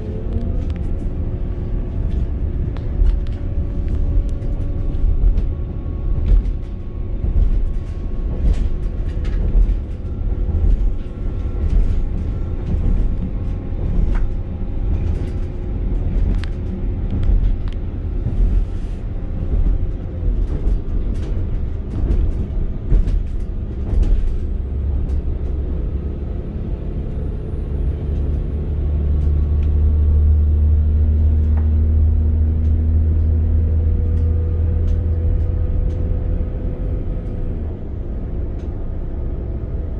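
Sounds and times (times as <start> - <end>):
deep steady drone: 0.0 - 39.9
train wheels rumbling: 0.0 - 39.9.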